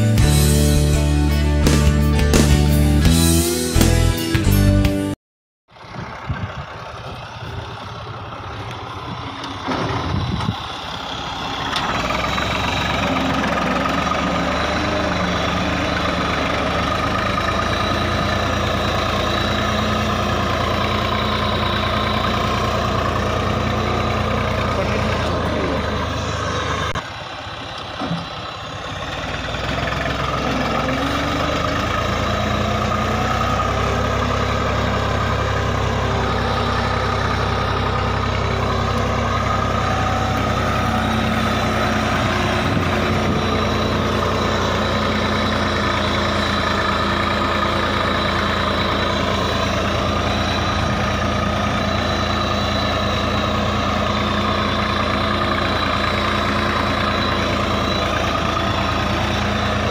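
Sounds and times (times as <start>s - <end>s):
tractor diesel engine running: 0.0s - 4.9s, 5.7s - 59.9s.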